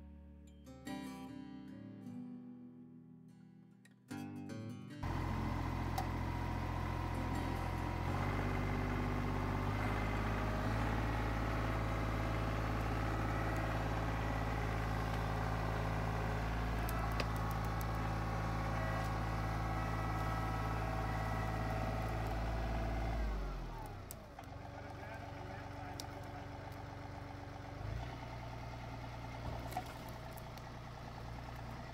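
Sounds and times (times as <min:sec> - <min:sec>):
tractor diesel engine running: 0:05.0 - 0:31.9.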